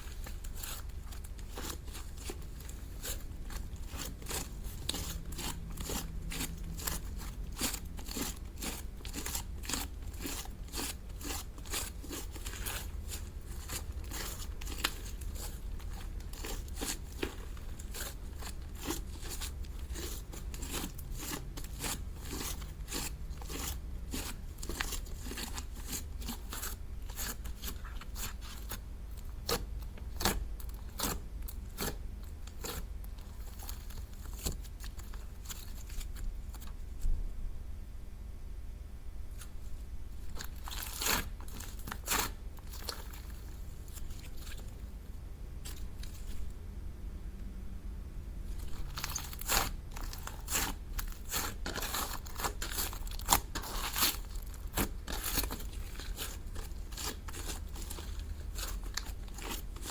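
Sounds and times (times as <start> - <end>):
slime clicking and crackling: 0.1 - 36.0, 40.4 - 43.4, 48.6 - 59.9.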